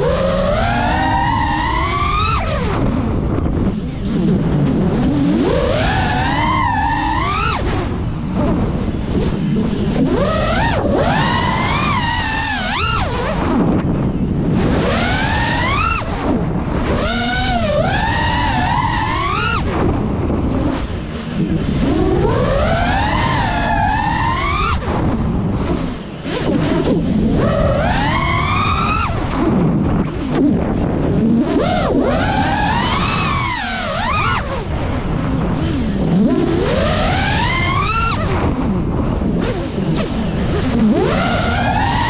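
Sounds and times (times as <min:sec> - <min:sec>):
drone motors whining: 0:00.0 - 0:42.0
rushing wind: 0:00.0 - 0:42.0.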